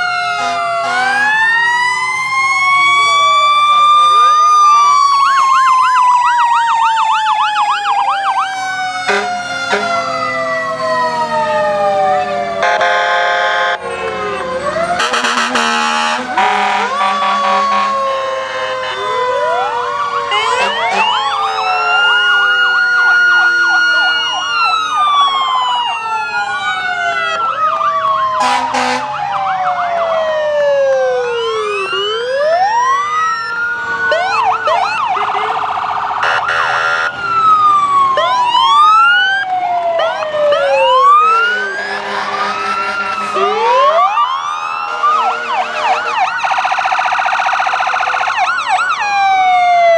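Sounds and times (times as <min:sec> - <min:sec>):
fire truck sirens wailing: 0:00.0 - 0:49.9.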